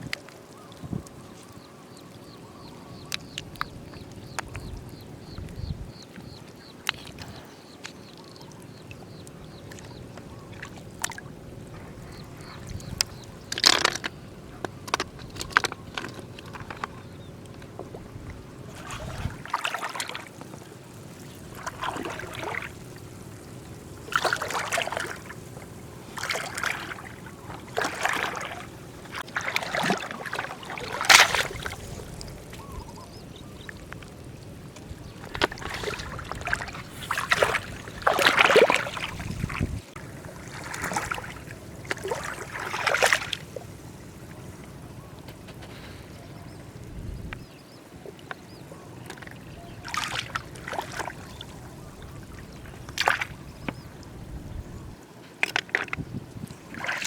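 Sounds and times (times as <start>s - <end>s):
background water wash: 0.0s - 57.0s
shallow water splashing: 0.0s - 57.0s.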